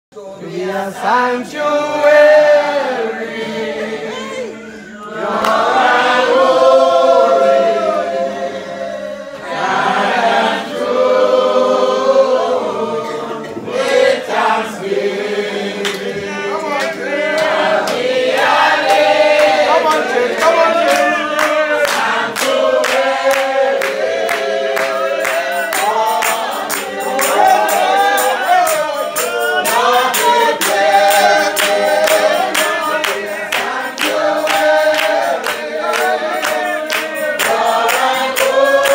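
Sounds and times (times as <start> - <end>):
congregation singing a hymn: 0.2 - 38.9.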